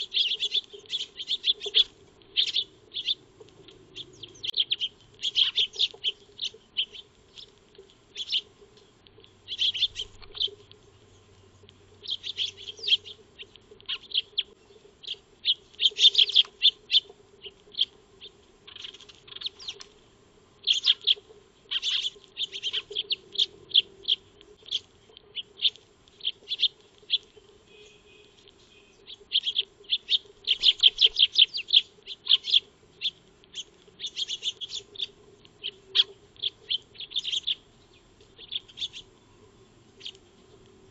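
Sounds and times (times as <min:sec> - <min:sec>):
sparrows chirping: 0:00.0 - 0:20.0, 0:20.6 - 0:40.9.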